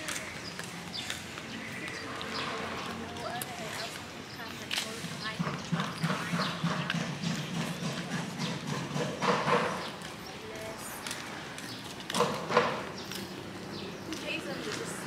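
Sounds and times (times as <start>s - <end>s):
people's voices: 0.0s - 15.0s.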